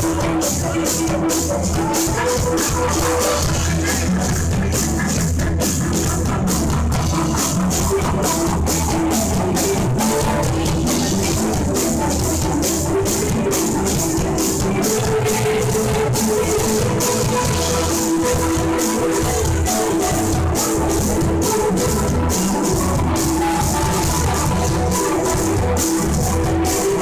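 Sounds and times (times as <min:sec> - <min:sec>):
bass guitar: 0:00.0 - 0:27.0
drum kit beat: 0:00.0 - 0:27.0
electric guitar: 0:00.0 - 0:27.0
keyboards: 0:00.0 - 0:27.0.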